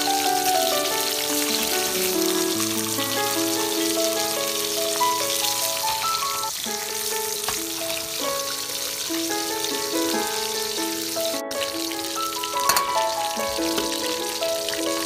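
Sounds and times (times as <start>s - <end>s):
background music: 0.0s - 15.0s
fish sizzling in hot oil: 0.0s - 15.0s.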